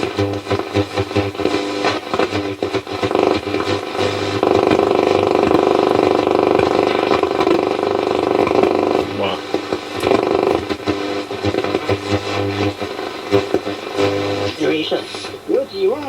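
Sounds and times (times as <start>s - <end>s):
buzzing tone: 0.0s - 15.4s
choppy radio signal: 0.0s - 16.0s
radio hum: 0.0s - 16.0s.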